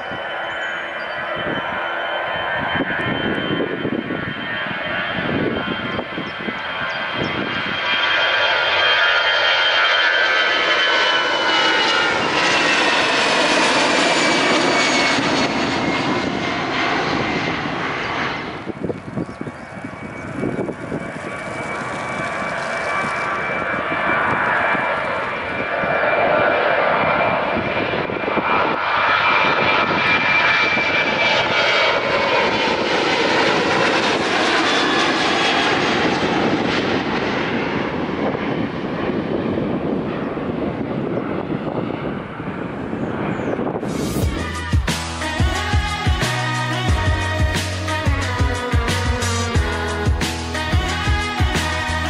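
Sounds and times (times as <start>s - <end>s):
jet engines roaring with whine: 0.0s - 52.0s.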